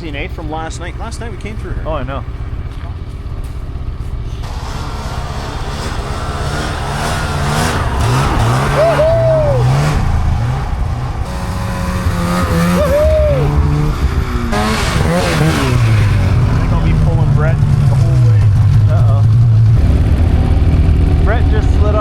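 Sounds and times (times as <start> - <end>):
high whines: 0.0 - 22.0
snowmobile engine revving: 0.0 - 22.0.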